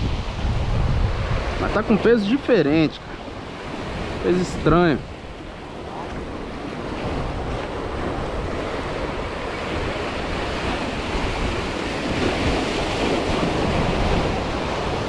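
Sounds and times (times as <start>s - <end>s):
sea surf washing against rocks: 0.0s - 15.0s
wind buffeting the microphone: 0.0s - 15.0s.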